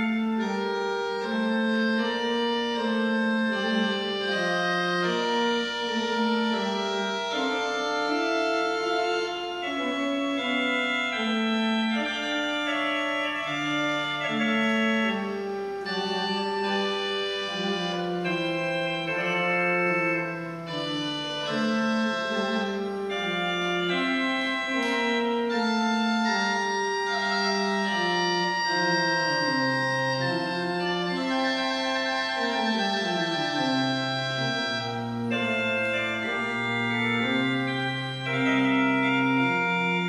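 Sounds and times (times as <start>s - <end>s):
church organ playing: 0.0s - 40.0s.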